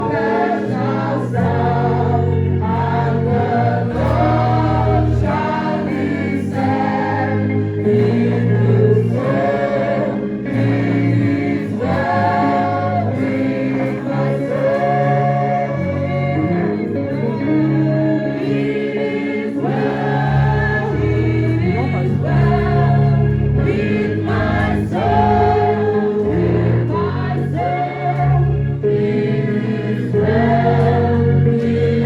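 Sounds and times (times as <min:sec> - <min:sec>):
choir singing gospel: 0:00.0 - 0:32.0
steady bass line: 0:00.0 - 0:32.0.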